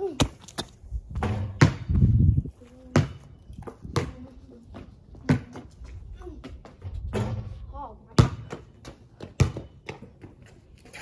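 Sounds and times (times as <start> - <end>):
basketball bouncing on concrete: 0.1 - 2.1, 2.8 - 10.6.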